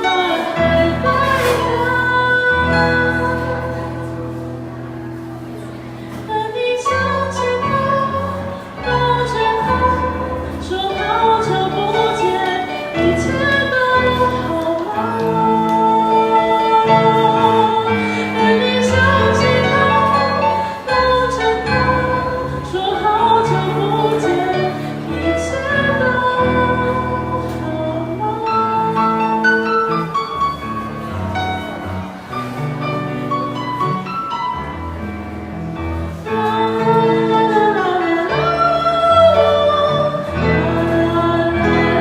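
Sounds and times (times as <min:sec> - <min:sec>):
live pop band playing: 0:00.0 - 0:42.0.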